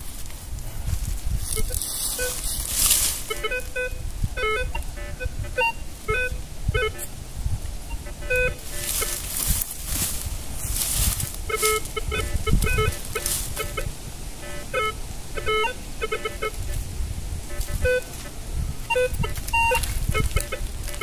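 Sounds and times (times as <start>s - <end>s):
rustling hiss: 0.0s - 21.0s
metal detector beeping: 1.5s - 7.1s, 7.8s - 16.8s, 17.5s - 21.0s.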